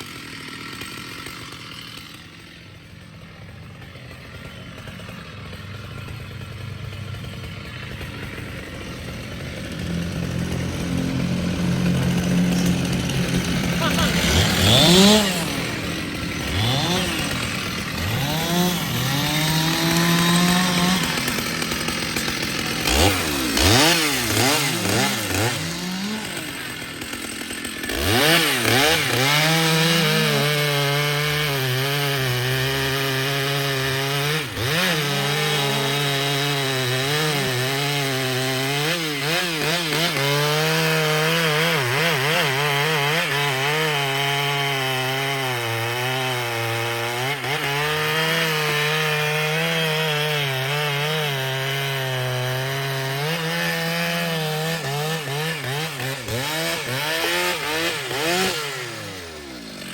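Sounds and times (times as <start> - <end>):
chainsaw revving: 0.0 - 59.9
chainsaw sawing wood: 0.0 - 59.9.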